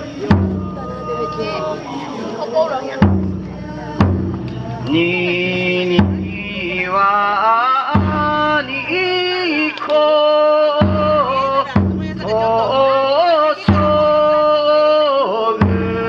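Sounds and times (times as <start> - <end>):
taiko drum strokes: 0.0 - 2.1, 2.9 - 10.0, 10.6 - 14.4.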